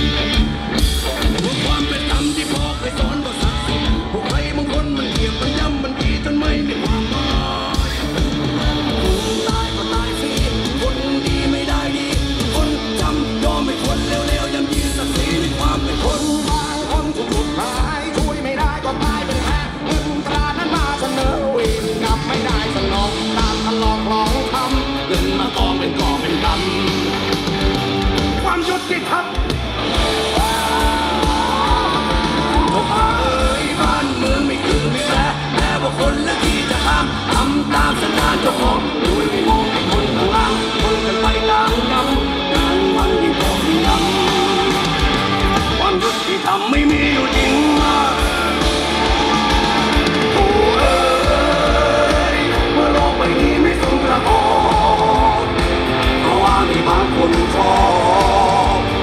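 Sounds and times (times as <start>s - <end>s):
live rock band through pa: 0.0s - 59.0s
person singing: 0.8s - 27.7s, 30.0s - 59.0s.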